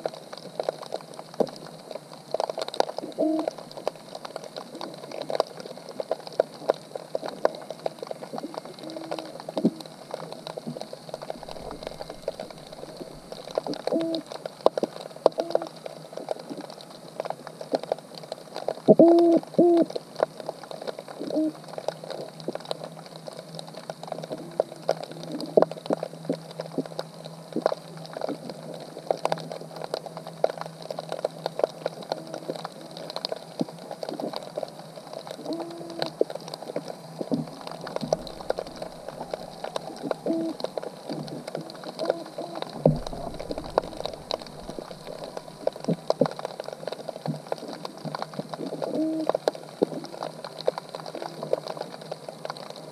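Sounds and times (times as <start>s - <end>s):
faint steady hum: 0.0s - 52.9s
underwater clicks and crackles: 0.0s - 52.9s.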